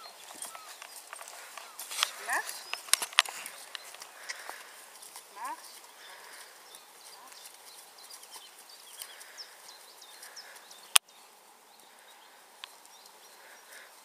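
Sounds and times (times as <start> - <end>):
birds chirping: 0.0 - 14.0
horse hooves on grass: 0.0 - 14.0.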